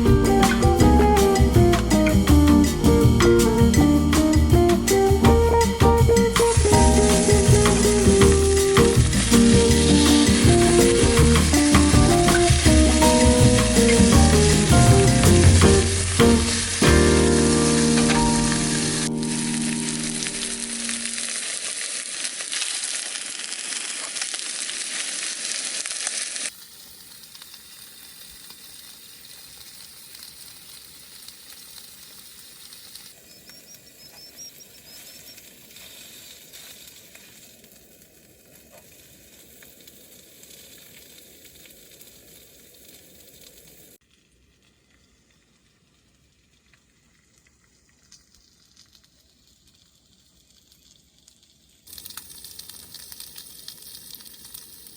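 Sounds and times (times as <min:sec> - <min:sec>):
food sizzling in a frying pan: 0:00.0 - 0:44.0, 0:48.0 - 0:54.9.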